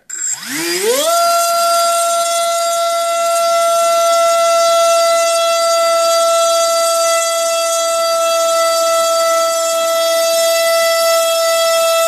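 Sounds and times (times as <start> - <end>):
electric motor propeller whine: 0.0 - 12.0.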